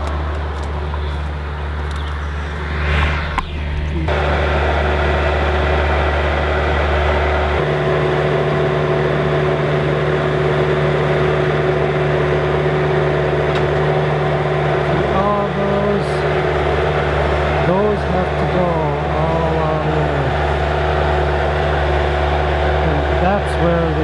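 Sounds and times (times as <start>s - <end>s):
motor running: 0.0s - 24.0s.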